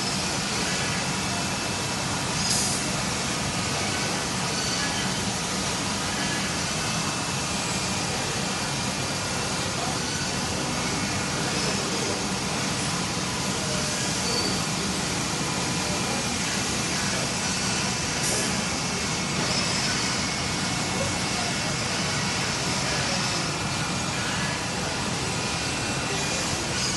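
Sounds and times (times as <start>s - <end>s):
faint machine whines: 0.0s - 26.9s
machining center running: 0.0s - 26.9s.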